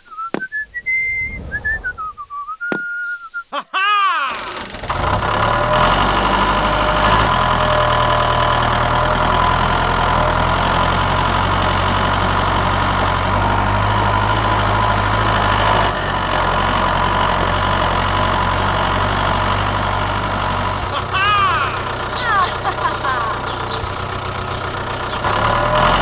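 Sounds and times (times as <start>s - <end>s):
tractor engine idling: 4.3s - 26.0s.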